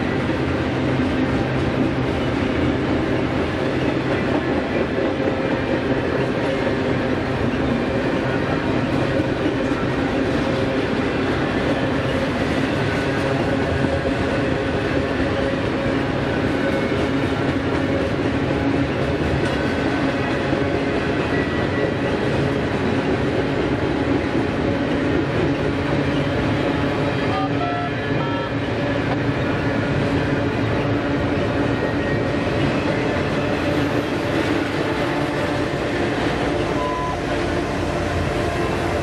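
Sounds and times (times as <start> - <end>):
train wheels rolling on rails: 0.0 - 39.0.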